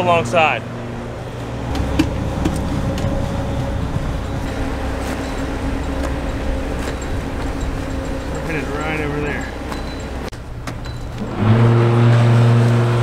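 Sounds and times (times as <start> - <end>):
boat diesel engines rumbling: 0.0 - 13.0.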